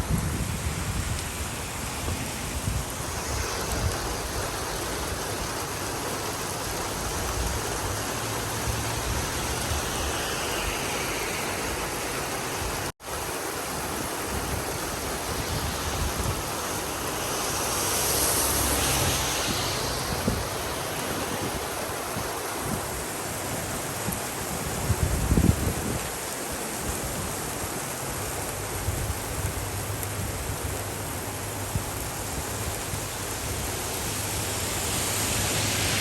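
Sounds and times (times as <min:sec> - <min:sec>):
rain: 0:00.0 - 0:36.0
wind: 0:00.0 - 0:36.0.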